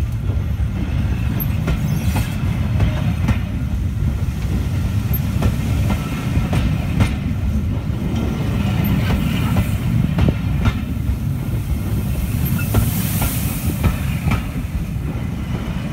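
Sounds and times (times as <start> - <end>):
train coaches rumbling past: 0.0 - 15.9.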